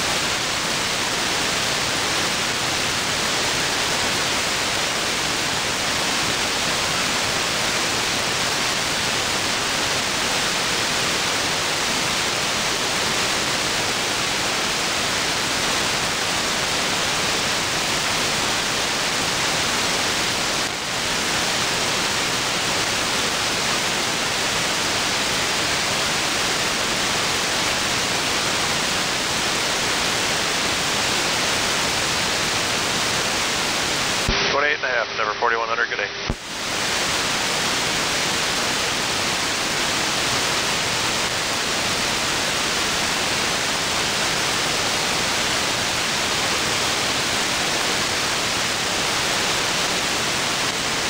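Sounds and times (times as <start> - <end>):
radio static hiss: 0.0 - 51.0.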